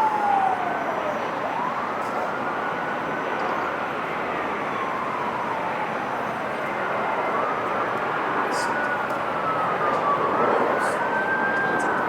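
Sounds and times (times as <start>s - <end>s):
faint siren wailing: 0.0s - 12.0s
jet engine noise: 0.0s - 12.0s.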